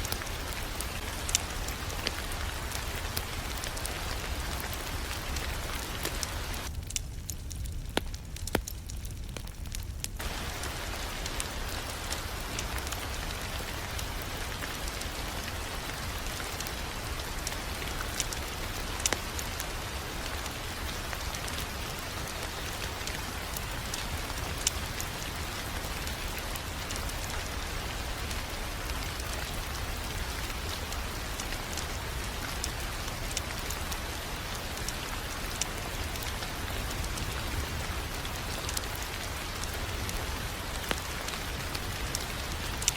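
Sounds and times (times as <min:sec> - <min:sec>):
fire popping: 0:00.0 - 0:42.9
low fire rumble: 0:00.0 - 0:42.9
wood fire hissing: 0:00.0 - 0:42.9.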